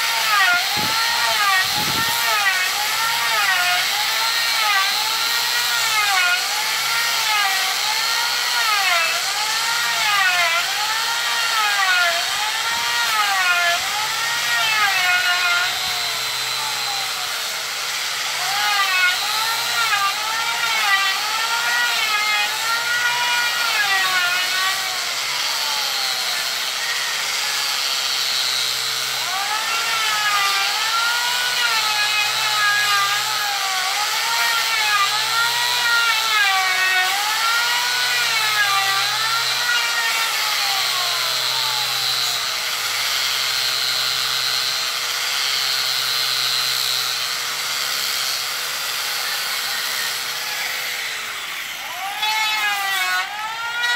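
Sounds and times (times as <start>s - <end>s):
orbital sander on wood: 0.0s - 53.9s.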